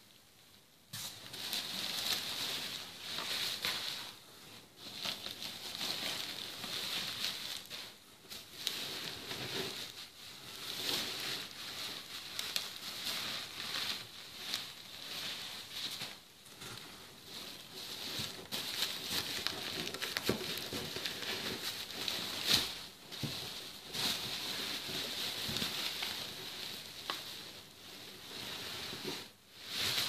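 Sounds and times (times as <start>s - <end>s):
bubble wrap rustling and crinkling: 0.1s - 30.0s.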